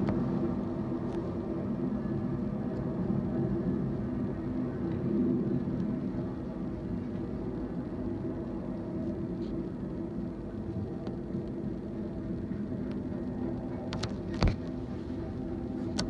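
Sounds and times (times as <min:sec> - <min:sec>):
freight train rumble: 0:00.0 - 0:16.0.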